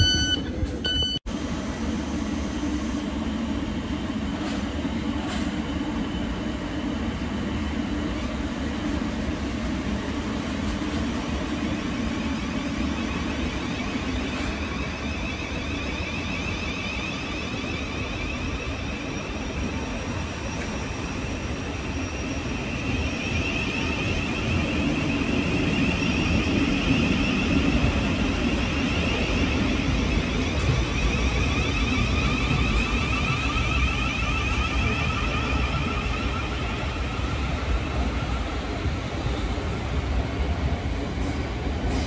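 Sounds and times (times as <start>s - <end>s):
train wheel and running noise: 0.0s - 42.0s.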